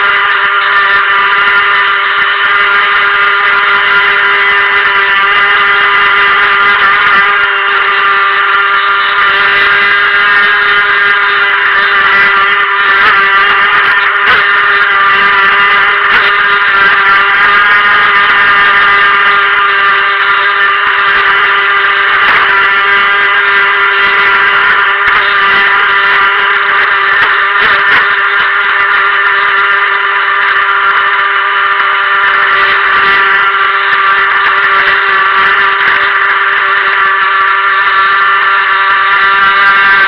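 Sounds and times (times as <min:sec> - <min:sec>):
electric motor whining: 0:00.0 - 0:40.0.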